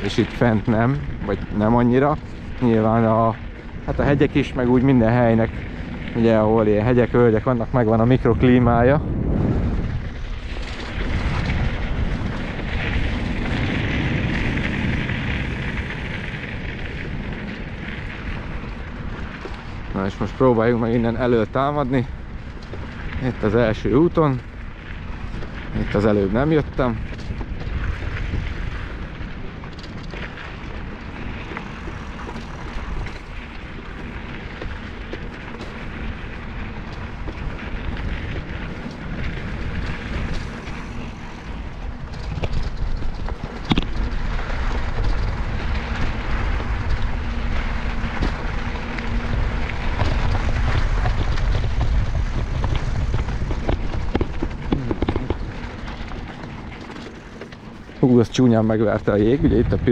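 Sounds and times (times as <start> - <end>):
wheels crunching on gravel: 0.0 - 59.9
wind buffeting microphone: 0.0 - 59.9.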